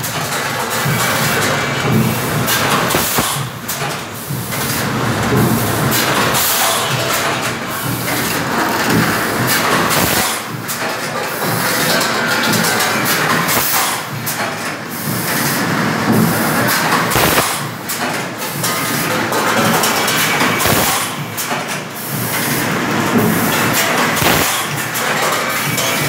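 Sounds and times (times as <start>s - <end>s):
blow moulding machine running: 0.0s - 26.0s
sharp machine knock: 0.0s - 26.0s.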